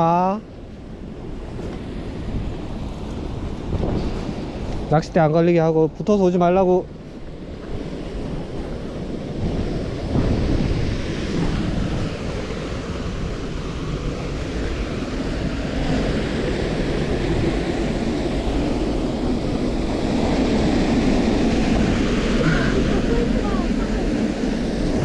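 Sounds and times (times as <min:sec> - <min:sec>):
wind buffeting microphone: 0:00.0 - 0:25.0
stream rushing: 0:00.9 - 0:25.0.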